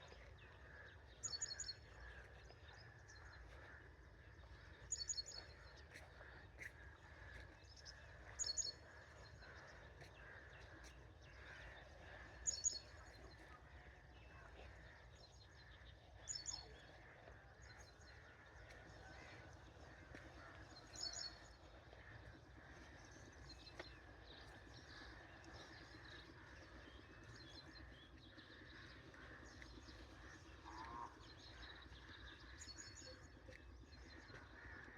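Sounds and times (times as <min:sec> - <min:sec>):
birds chirping: 0:00.0 - 0:34.9
rural ambience: 0:00.0 - 0:34.9.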